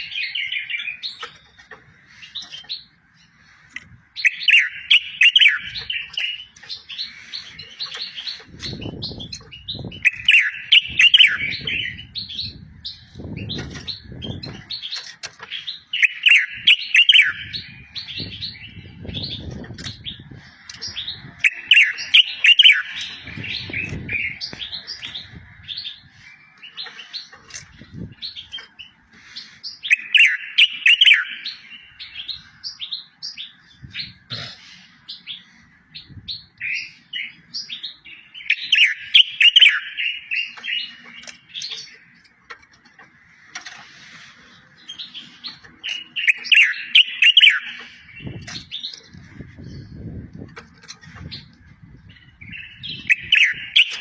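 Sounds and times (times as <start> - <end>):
bird chirps: 0.0 - 54.0
songbird singing trills: 0.0 - 54.0.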